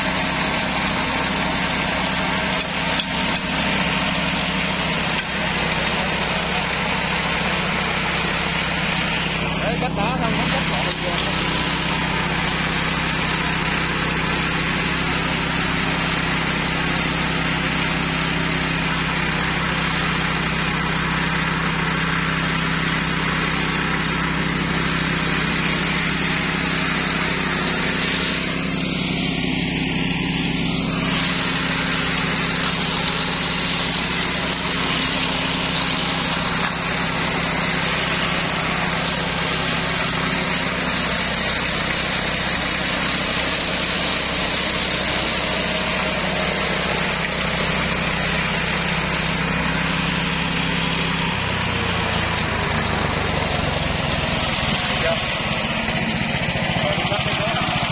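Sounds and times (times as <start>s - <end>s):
flail mower engine running: 0.0s - 57.9s.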